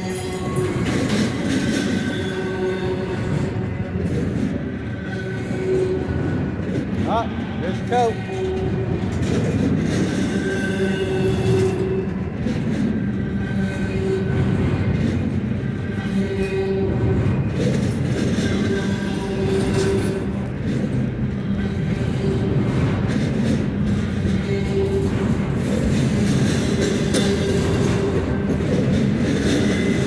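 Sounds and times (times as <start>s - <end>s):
freight train rumbling by: 0.0s - 30.0s.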